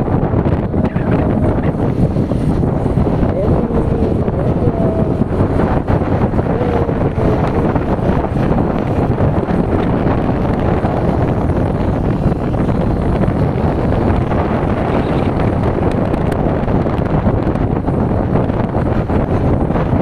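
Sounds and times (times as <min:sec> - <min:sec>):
road noise: 0:00.0 - 0:20.0
wind rushing over microphone: 0:00.0 - 0:20.0.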